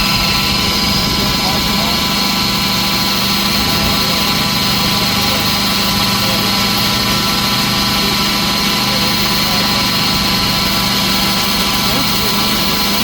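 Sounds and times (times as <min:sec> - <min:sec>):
machine drone with hum: 0:00.0 - 0:13.0.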